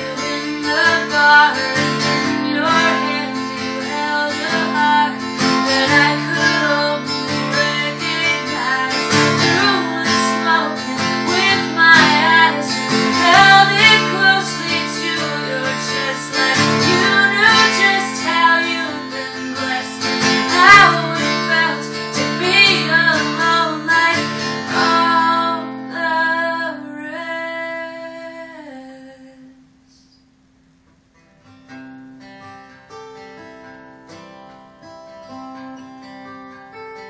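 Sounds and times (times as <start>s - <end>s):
strummed acoustic guitar: 0.0s - 28.9s, 31.1s - 37.0s
woman singing: 0.0s - 30.2s.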